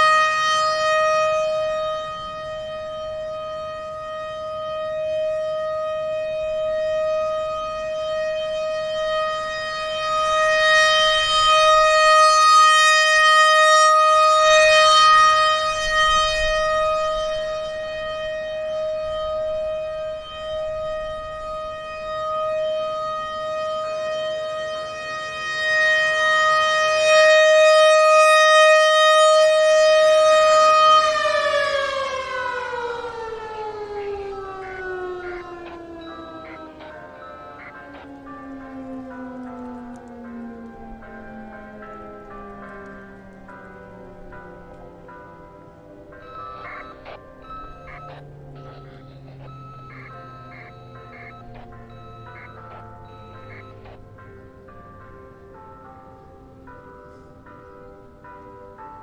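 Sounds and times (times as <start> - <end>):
warning siren steady tone: 0.0 - 59.0.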